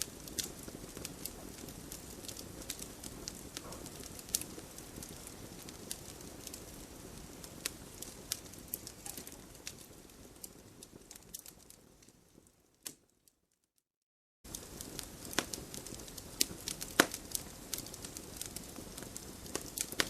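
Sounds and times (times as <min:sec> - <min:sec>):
campfire crackling: 0:00.0 - 0:13.2, 0:14.5 - 0:20.0.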